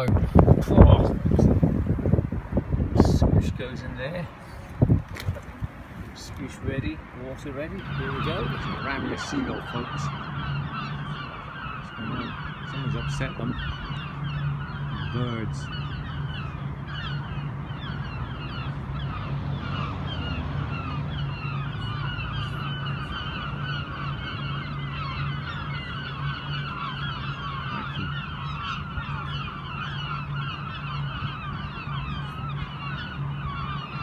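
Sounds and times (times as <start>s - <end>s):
gulls squawking: 0.0s - 34.0s
low hum: 4.3s - 34.0s.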